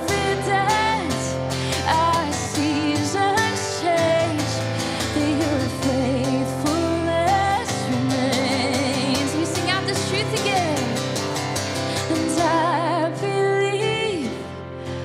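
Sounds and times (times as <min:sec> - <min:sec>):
woman singing with vibrato: 0:00.0 - 0:11.2, 0:11.8 - 0:14.7
strummed acoustic guitar: 0:00.0 - 0:15.0.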